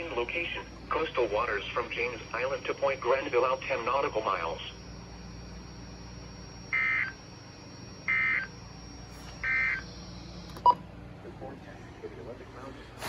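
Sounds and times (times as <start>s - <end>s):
radio low hum: 0.0s - 13.0s.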